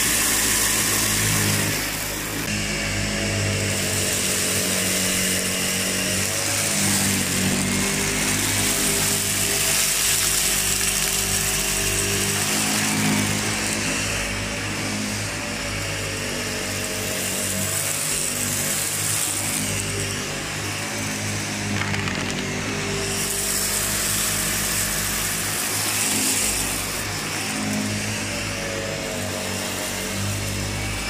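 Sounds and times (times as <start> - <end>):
vacuum cleaner running on carpet: 0.0 - 31.0.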